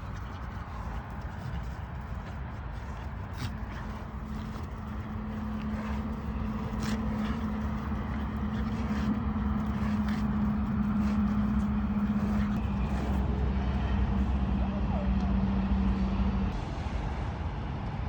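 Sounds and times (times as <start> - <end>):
engine-like rumble with hum: 0.0 - 18.0.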